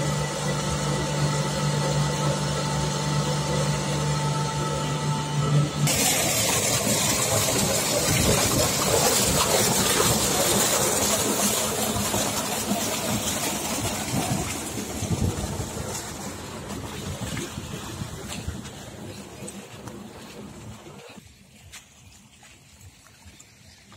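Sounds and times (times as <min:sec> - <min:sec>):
pump motor hum: 0:00.0 - 0:21.3
water rushing and splashing: 0:00.0 - 0:23.9.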